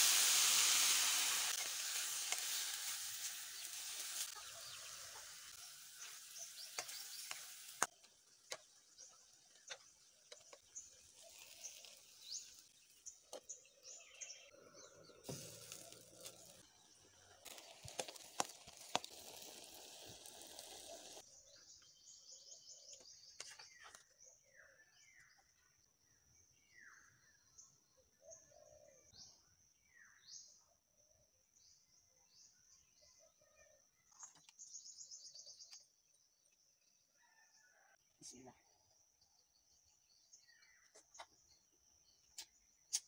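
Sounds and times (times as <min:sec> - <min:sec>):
small birds chirping: 0:01.4 - 0:43.0.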